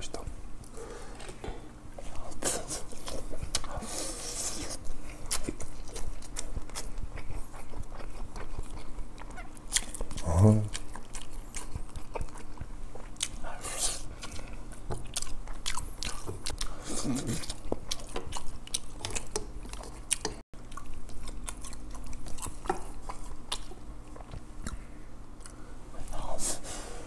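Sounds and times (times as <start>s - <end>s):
man chewing food: 0.6s - 26.4s.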